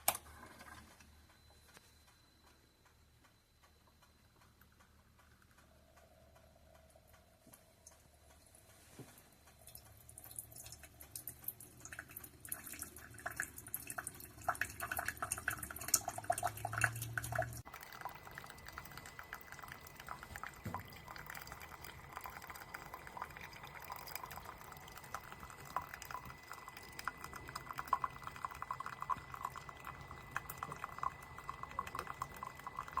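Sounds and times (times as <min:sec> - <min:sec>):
low pump hum: 0:00.0 - 0:33.0
coffee pouring and dripping: 0:04.5 - 0:33.0.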